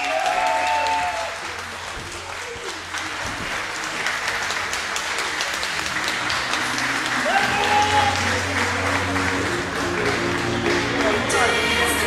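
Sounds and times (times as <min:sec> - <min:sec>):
crowd applauding and cheering: 0:00.0 - 0:12.0.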